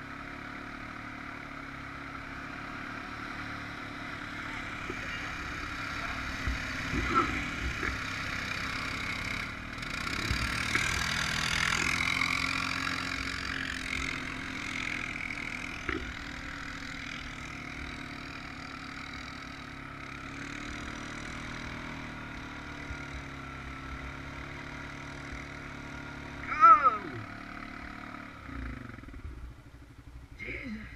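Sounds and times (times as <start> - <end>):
atv engine running: 0.0 - 30.9.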